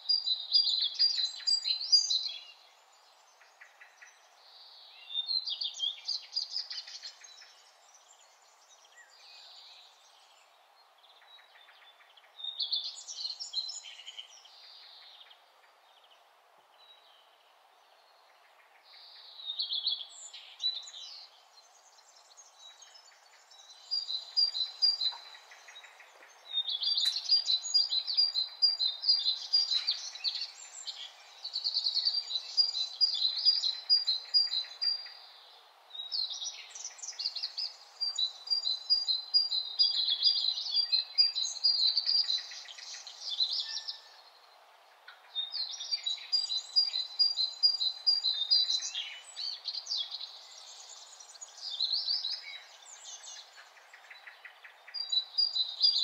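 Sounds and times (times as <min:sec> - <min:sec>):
faint background hiss: 0:00.0 - 0:56.0
songbirds chirping and trilling: 0:00.0 - 0:56.0.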